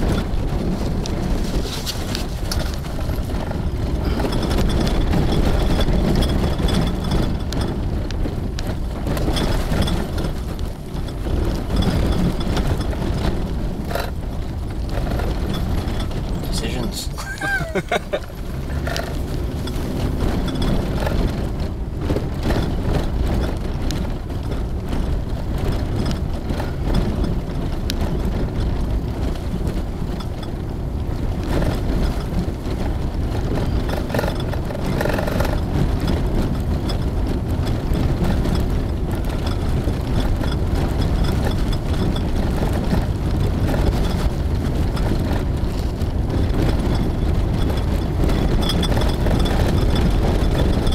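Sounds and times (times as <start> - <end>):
knocks and rattles over bumps: 0.0 - 50.9
vehicle engine and tyre rumble: 0.0 - 50.9.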